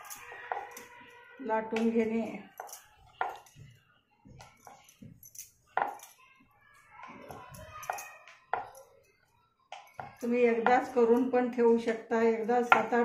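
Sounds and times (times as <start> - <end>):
glass bangles clinking: 0.0 - 6.4, 7.0 - 13.0.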